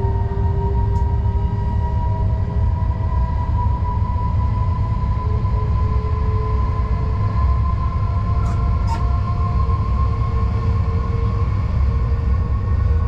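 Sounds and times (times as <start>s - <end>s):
heavy locomotive running gear rumble: 0.0s - 13.0s.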